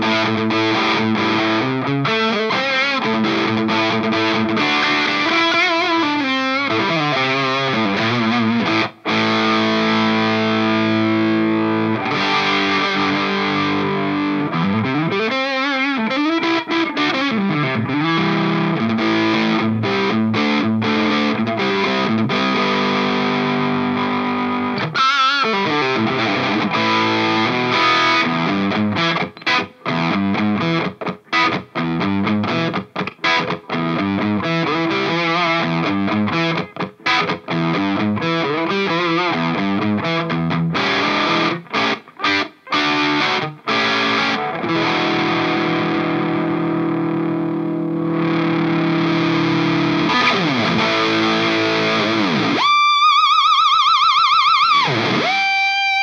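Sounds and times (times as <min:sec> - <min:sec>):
distorted electric guitar chords: 0:00.0 - 0:56.0.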